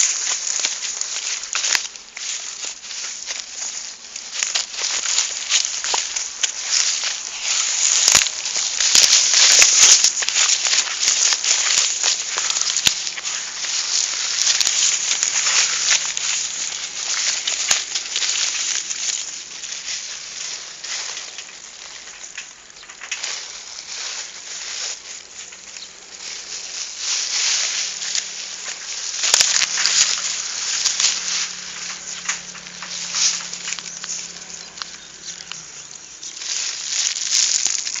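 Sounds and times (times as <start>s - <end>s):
crackling and rustling: 0.0s - 38.0s.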